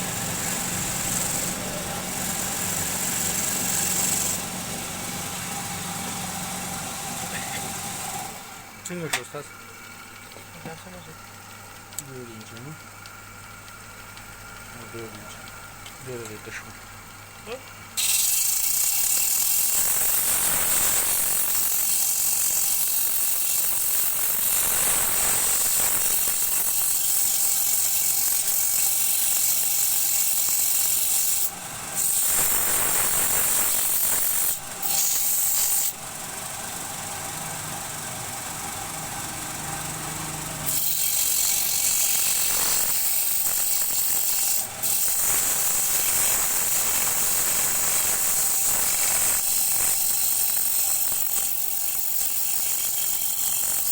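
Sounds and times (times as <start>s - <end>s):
wood lathe cutting hiss: 0.0s - 9.5s, 18.0s - 53.9s
lathe motor hum: 0.0s - 16.6s, 17.4s - 53.9s.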